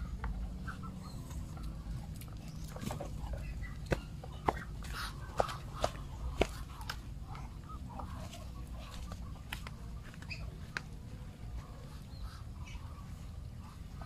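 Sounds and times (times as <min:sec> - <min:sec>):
ducks clucking softly: 0:00.0 - 0:14.0.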